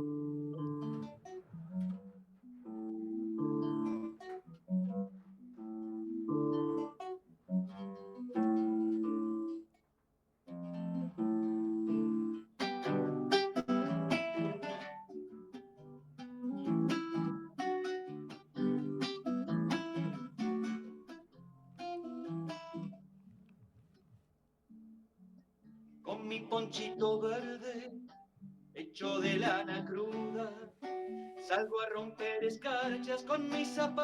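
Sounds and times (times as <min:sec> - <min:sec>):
solo guitar strumming: 0:00.0 - 0:09.7, 0:10.5 - 0:23.4, 0:24.7 - 0:34.0.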